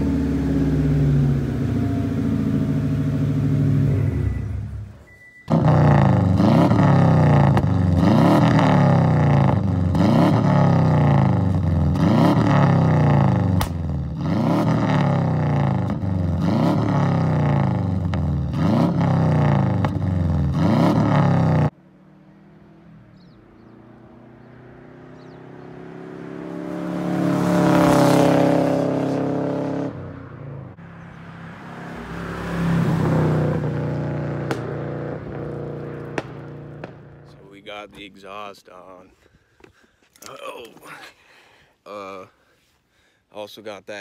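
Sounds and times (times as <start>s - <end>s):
car passing under acceleration: 0.0s - 37.5s
car engine revving: 0.0s - 38.1s.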